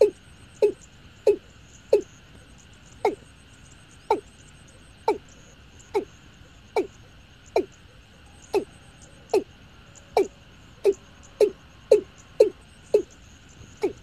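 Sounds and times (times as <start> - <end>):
bird calling low notes: 0.0 - 3.4, 4.0 - 14.0
faint steady hiss: 0.0 - 14.0.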